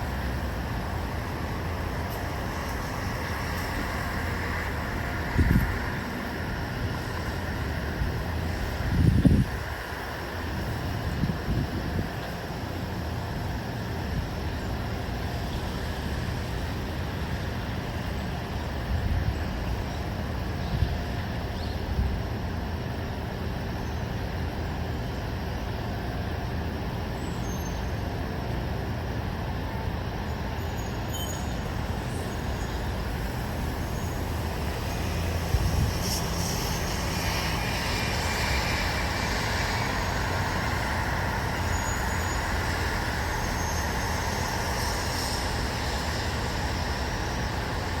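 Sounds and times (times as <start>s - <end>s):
distant road traffic rumble: 0.0s - 48.0s
vehicle passing hiss: 0.0s - 48.0s.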